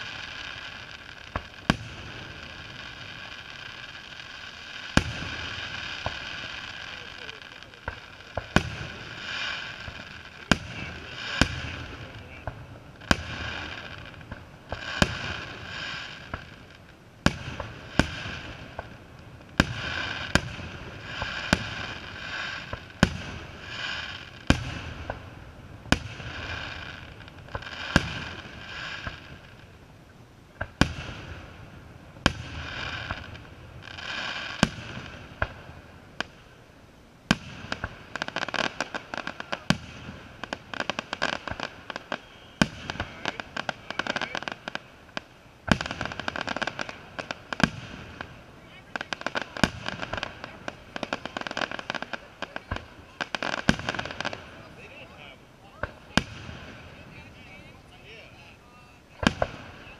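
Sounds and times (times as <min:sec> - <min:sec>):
firework hiss: 0:00.0 - 0:59.9.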